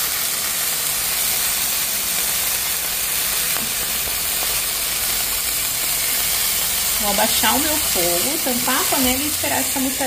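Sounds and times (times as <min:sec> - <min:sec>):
burger patties sizzling in a pan: 0:00.0 - 0:10.0.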